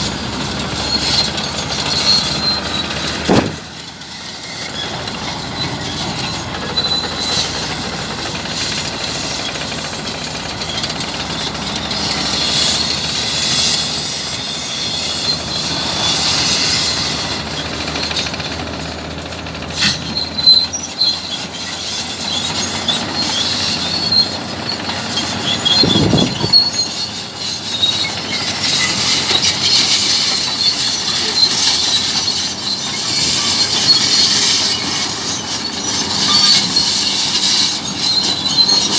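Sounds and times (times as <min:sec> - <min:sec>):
bulldozer tracks squealing: 0:00.0 - 0:38.9
steady mechanical noise: 0:00.0 - 0:38.9.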